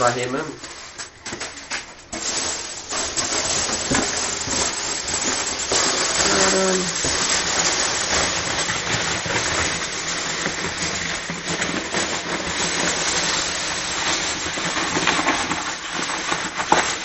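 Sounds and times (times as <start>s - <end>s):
foam packing peanuts rustling: 0.0s - 17.0s.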